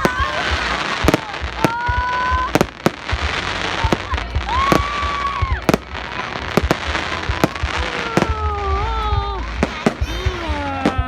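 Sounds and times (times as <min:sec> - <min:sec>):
constant noisy background: 0:00.0 - 0:11.0
fireworks bangs: 0:00.0 - 0:11.0.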